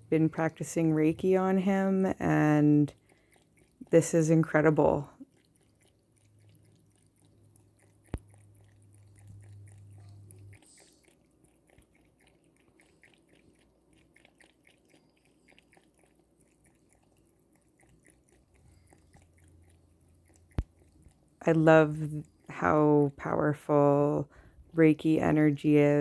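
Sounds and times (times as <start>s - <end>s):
cat lapping water: 1.3s - 22.6s.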